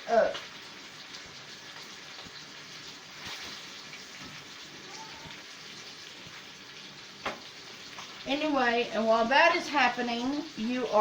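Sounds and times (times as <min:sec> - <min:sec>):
grease crackles and pops: 0:00.0 - 0:11.0
meat sizzling in a skillet: 0:00.0 - 0:11.0.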